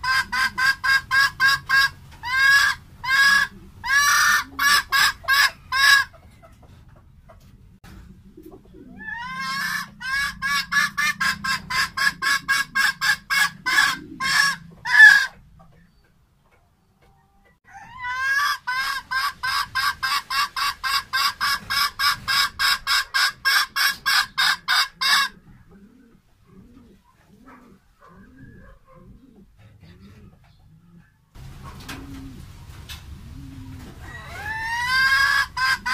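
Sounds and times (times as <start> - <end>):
hen clucking: 0.0 - 35.9.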